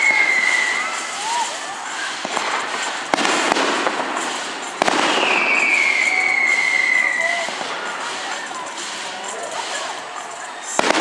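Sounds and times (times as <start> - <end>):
firework whistle falling in pitch: 0.0 - 11.0
fireworks bangs: 0.0 - 11.0
fireworks crackling: 0.0 - 11.0.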